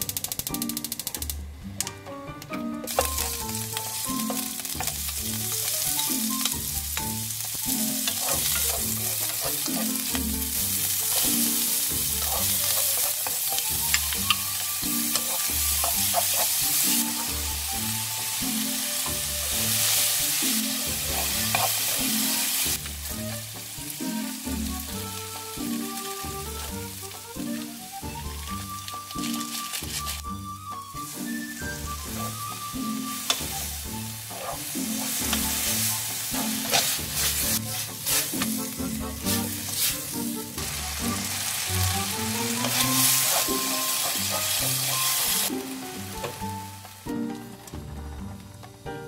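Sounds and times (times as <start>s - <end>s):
food sizzling in a wok: 0.0s - 1.4s, 2.9s - 49.0s
utensils clicking against a pan: 0.0s - 30.4s, 31.1s - 47.8s
soft background music with bass: 0.0s - 49.0s.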